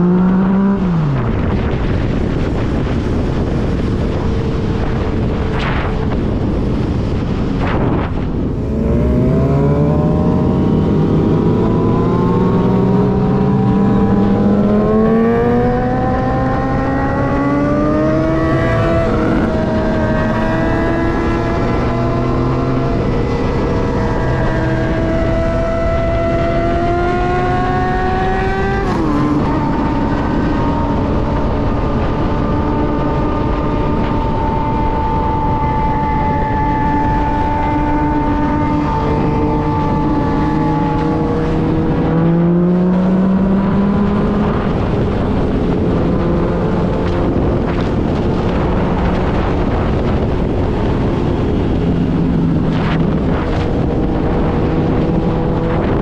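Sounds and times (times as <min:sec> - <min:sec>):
motorcycle engine: 0:00.0 - 0:56.0
steady rushing noise: 0:00.0 - 0:56.0.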